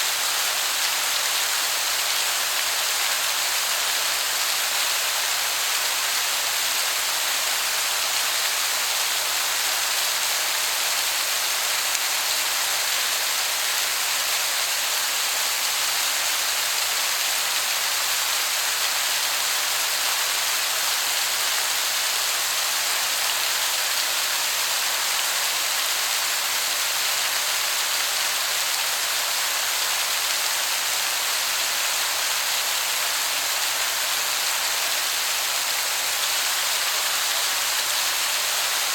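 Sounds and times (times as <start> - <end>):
distant waterfall hiss: 0.0 - 38.9.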